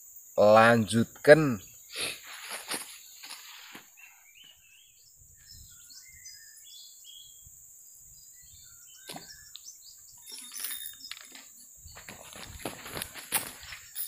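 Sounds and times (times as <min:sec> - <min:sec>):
small birds chirping: 0:00.0 - 0:14.0
steady high-pitched hiss: 0:00.0 - 0:14.0.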